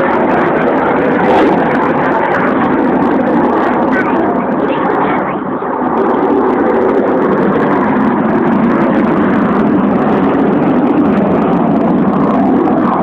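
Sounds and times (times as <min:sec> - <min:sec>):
fighter jets flying overhead: 0:00.0 - 0:13.0.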